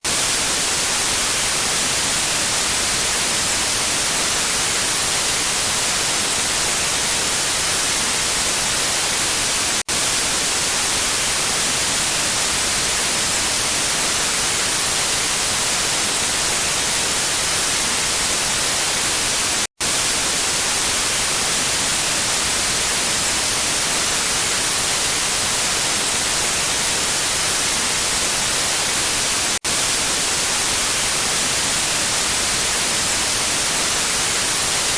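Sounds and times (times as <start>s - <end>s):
static white noise hiss: 0.1s - 34.9s.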